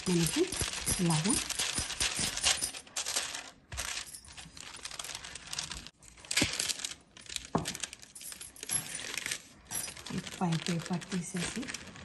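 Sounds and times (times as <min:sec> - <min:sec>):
parchment paper crackling: 0:00.0 - 0:12.0.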